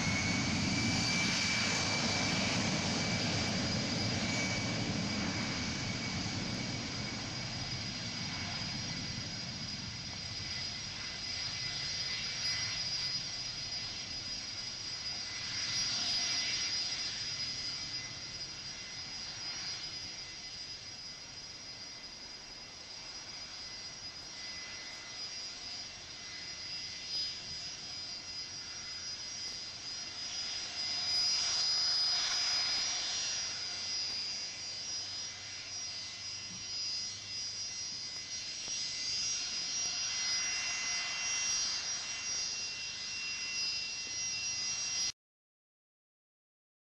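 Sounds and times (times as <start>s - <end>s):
jet engines whining: 0.0s - 45.1s.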